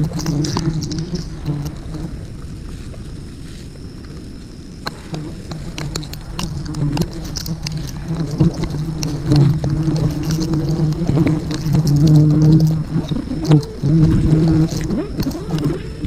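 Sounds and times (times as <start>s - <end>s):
clicks and crackles: 0.0s - 2.1s, 3.9s - 16.0s
bees buzzing: 0.0s - 2.3s, 4.8s - 16.0s.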